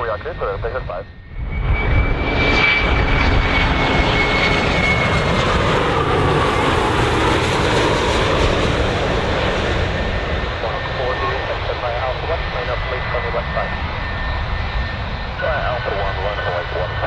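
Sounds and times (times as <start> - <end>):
high engine whine: 0.0 - 17.0
jet engines roaring: 0.0 - 17.0.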